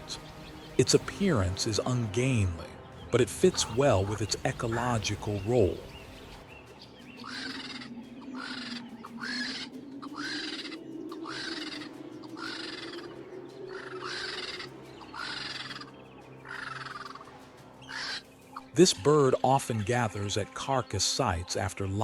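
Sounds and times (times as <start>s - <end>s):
low steady drone: 0.0s - 19.4s
bird harsh raspy call: 0.0s - 19.8s.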